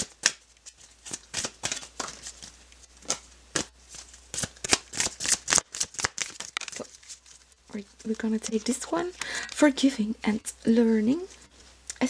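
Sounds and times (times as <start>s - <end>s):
cards being shuffled: 0.0s - 9.7s.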